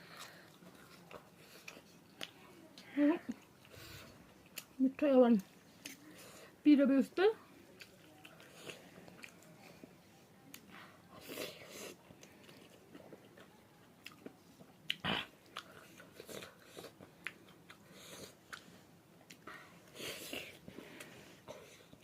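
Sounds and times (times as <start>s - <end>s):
person chewing food: 0.0s - 2.4s, 3.3s - 4.8s, 7.6s - 22.0s.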